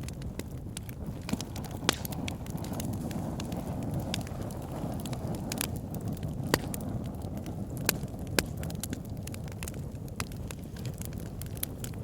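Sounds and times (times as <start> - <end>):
burning wood crackling and popping: 0.0 - 12.0
campfire rumble: 0.0 - 12.0.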